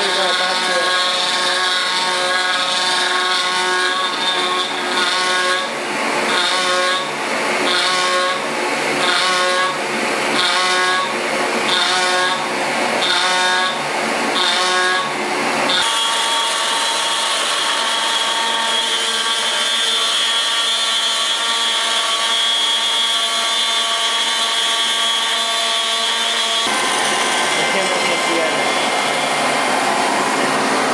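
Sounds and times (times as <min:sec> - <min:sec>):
milling machine cutting metal whine: 0:00.0 - 0:23.2, 0:26.1 - 0:30.9.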